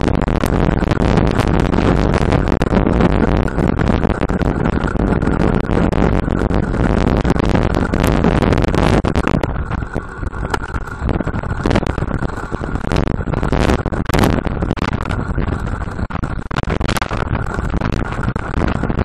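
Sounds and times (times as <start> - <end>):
heavy low rumble: 0.0 - 19.0
wind buffeting microphone: 0.0 - 19.0.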